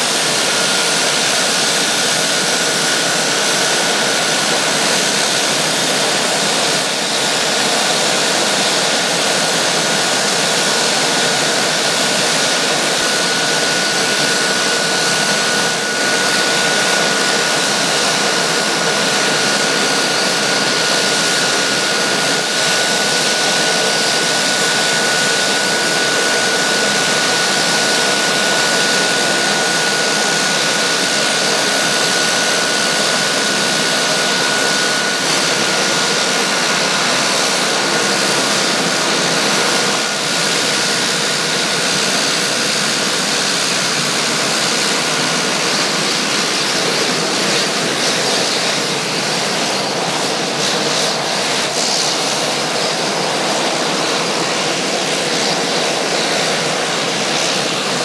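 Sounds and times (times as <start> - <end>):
high turbine whine: 0.0 - 58.0
turboprop engines idling: 0.0 - 58.0.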